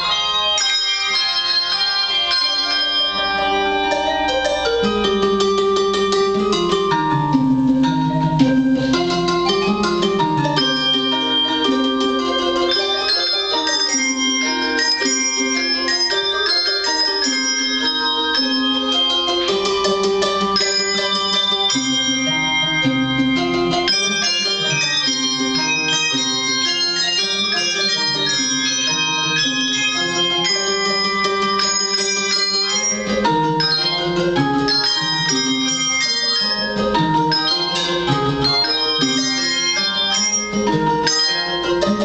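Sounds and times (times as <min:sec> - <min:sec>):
handbell choir playing: 0:00.0 - 0:42.0.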